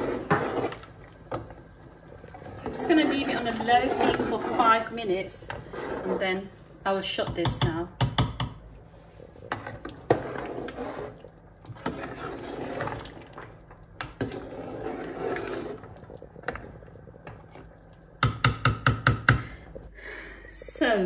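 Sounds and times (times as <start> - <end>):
ladle stirring liquid in pot: 0.0 - 6.5, 8.8 - 19.3.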